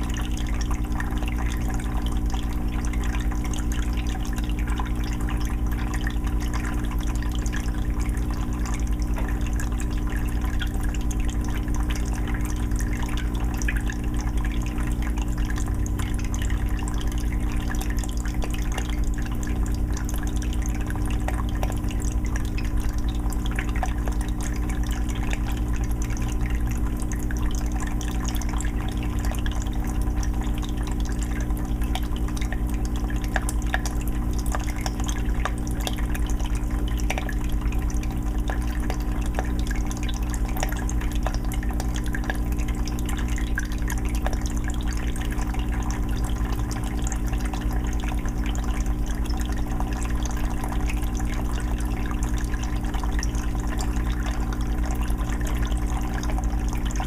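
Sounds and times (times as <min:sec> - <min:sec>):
dripping water: 0:00.0 - 0:57.0
filter motor hum: 0:00.0 - 0:57.0
water trickling and splashing: 0:00.0 - 0:57.0.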